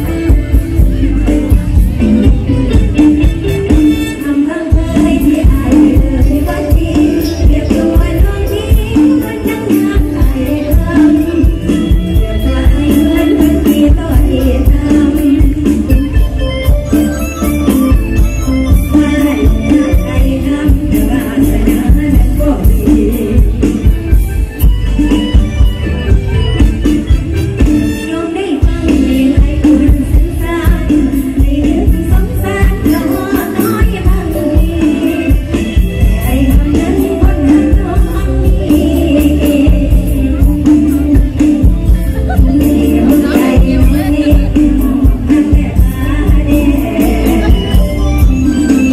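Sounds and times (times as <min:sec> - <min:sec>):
person singing: 0:00.0 - 0:24.2, 0:27.6 - 0:48.9
live band music over pa: 0:00.0 - 0:48.9
steady drum beat: 0:00.0 - 0:48.9.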